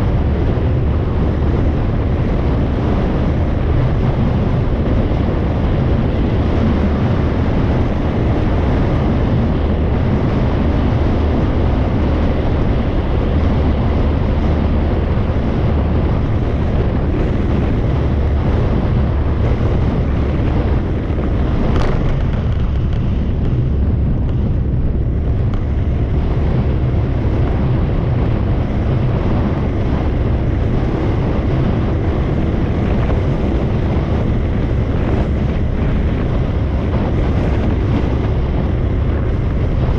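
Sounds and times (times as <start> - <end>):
motorbike and tyres rumbling: 0.0 - 39.9
wind rush on microphone: 0.0 - 39.9.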